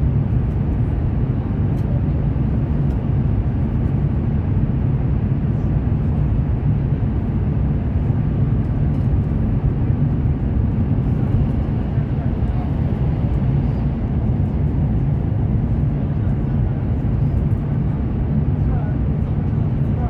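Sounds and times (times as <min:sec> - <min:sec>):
high-speed train rumble: 0:00.0 - 0:20.0.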